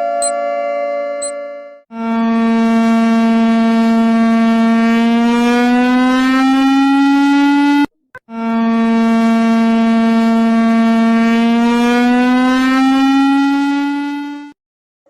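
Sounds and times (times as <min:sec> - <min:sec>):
emergency alert siren: 0:00.0 - 0:14.6.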